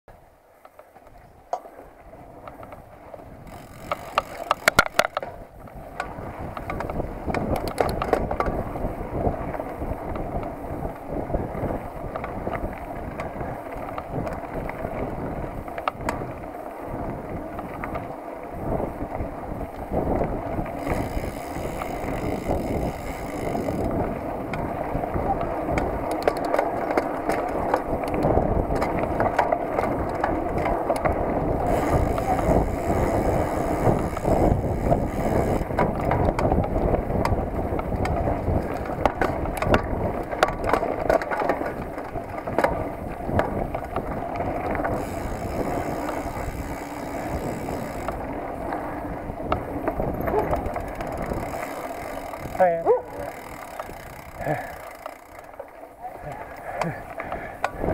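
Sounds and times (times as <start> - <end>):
bike rattling: 0.1 - 57.9
bike tyres rumbling on dirt: 0.1 - 57.9
wind on microphone: 3.2 - 54.8, 56.2 - 57.9.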